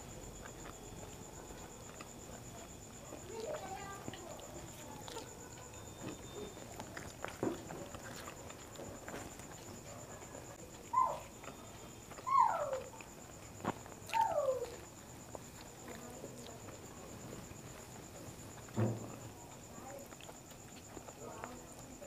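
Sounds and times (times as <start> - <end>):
faint eating clicks: 0.0 - 22.0.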